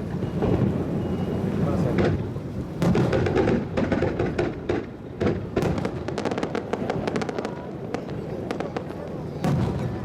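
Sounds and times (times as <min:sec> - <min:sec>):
crackling fireworks: 0:00.0 - 0:10.0
fireworks exploding: 0:00.0 - 0:10.0.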